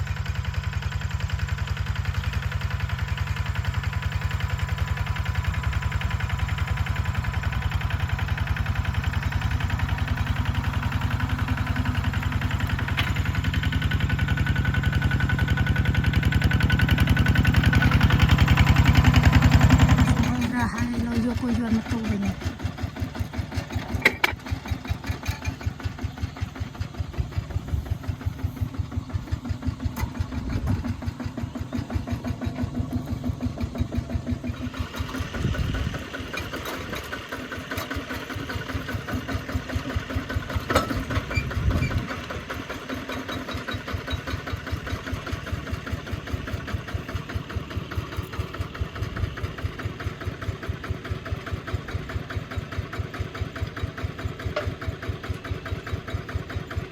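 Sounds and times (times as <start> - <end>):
engine chugging: 0.0 - 56.9.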